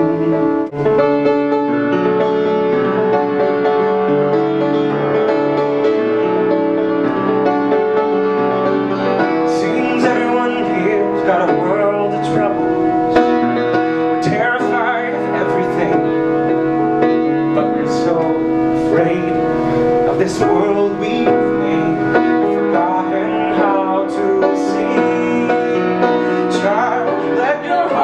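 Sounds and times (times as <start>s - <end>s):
grand piano ballad: 0.0s - 28.0s.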